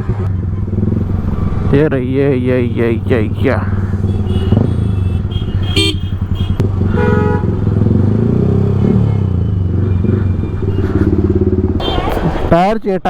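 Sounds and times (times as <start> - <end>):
motorcycle engine idling: 0.3 - 11.8.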